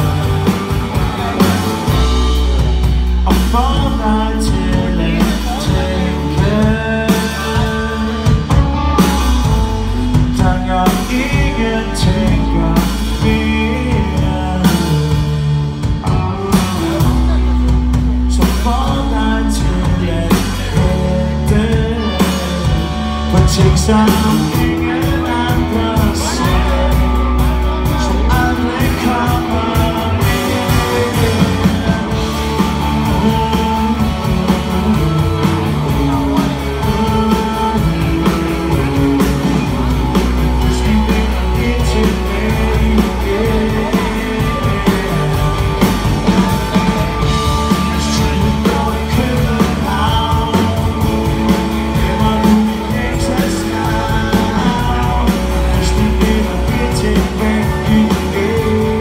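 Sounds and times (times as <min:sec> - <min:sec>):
drums: 0:00.0 - 0:59.0
electric bass: 0:00.0 - 0:59.0
electric guitars: 0:00.0 - 0:59.0
man singing lead vocals: 0:00.0 - 0:59.0.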